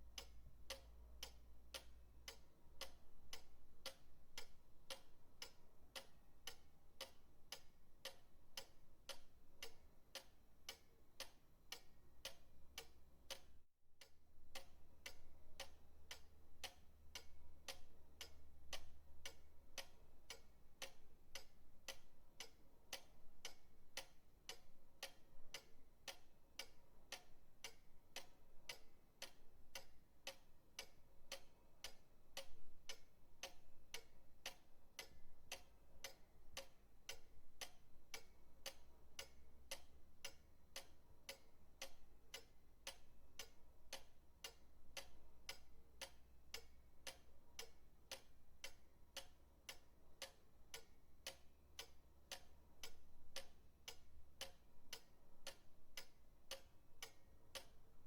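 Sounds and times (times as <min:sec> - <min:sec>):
pendulum clock ticking: 0:00.0 - 0:58.0.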